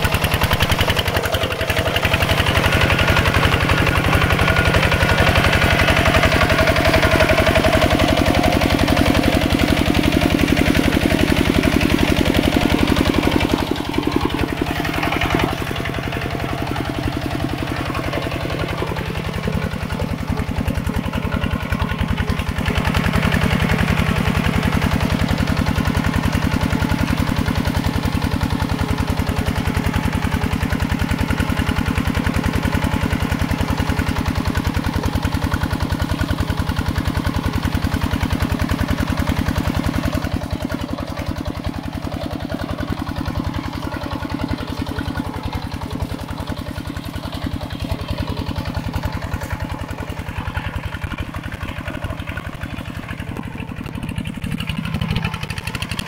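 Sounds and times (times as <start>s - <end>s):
small tractor engine running: 0.0s - 56.0s.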